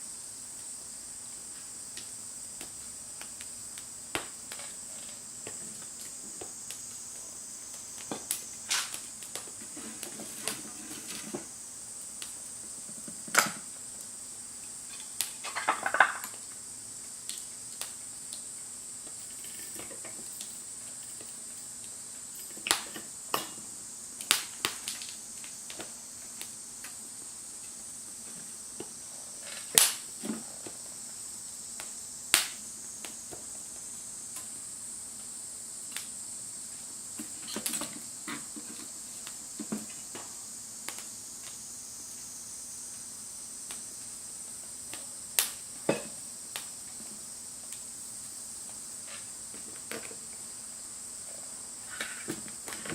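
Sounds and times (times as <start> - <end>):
insect drone: 0.0 - 52.9
wood fire crackling: 0.3 - 52.9.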